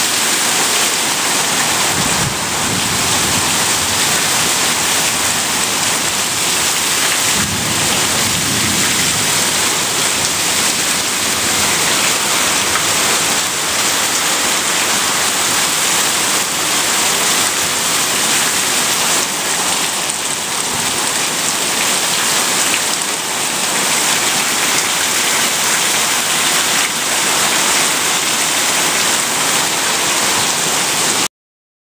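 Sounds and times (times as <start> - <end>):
heavy rain hissing: 0.0 - 31.3
water streaming off roof: 0.0 - 31.3.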